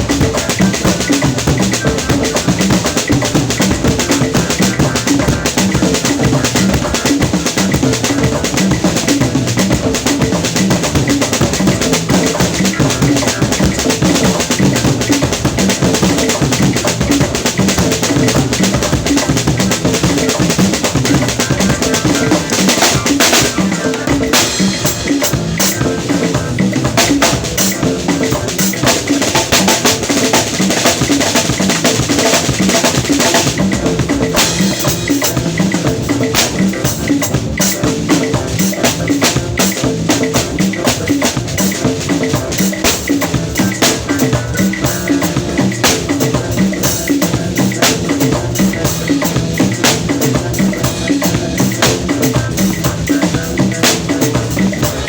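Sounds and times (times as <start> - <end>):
drum kit playing fast: 0.0 - 55.0.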